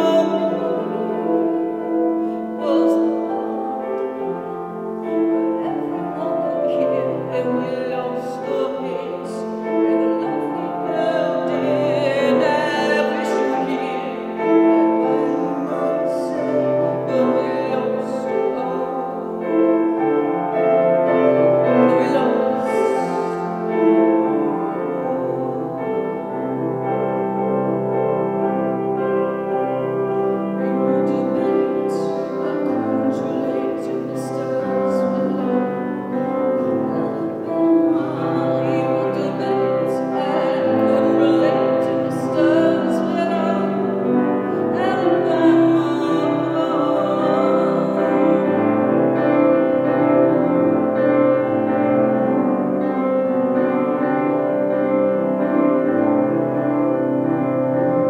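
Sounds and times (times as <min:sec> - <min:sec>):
woman singing with vibrato: 0:00.0 - 0:53.0
piano: 0:00.0 - 0:58.0.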